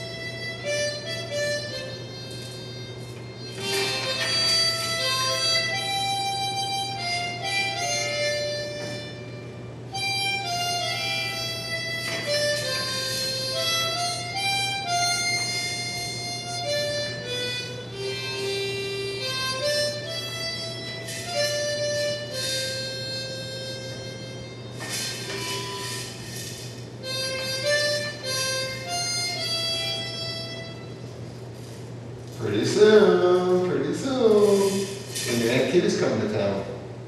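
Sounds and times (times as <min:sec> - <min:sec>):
harmonica playing slow melody: 0:00.0 - 0:35.8
low steady hum: 0:00.0 - 0:37.0.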